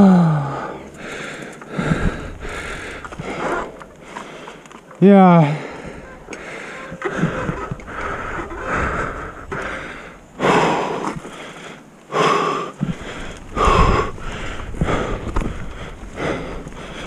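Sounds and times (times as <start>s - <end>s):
person panting: 0.0s - 4.7s, 5.4s - 17.0s
bike rolling on dirt trail: 0.0s - 17.0s.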